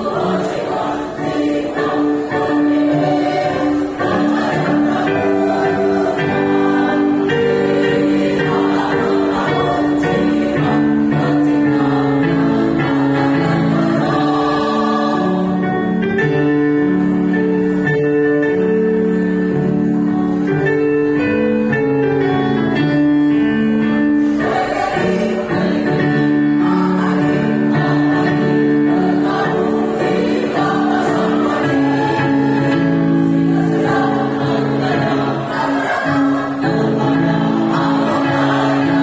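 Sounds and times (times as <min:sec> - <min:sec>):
choir singing in harmony: 0:00.0 - 0:17.8, 0:24.0 - 0:39.0.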